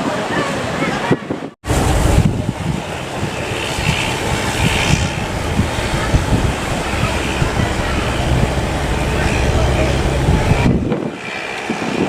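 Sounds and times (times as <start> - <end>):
surf: 0.0 - 12.0
wind buffeting microphone: 0.0 - 12.0.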